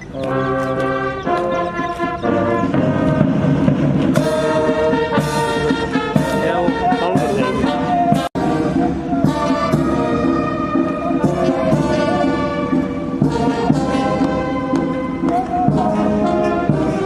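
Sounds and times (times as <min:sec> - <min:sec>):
brass band music: 0:00.0 - 0:17.0.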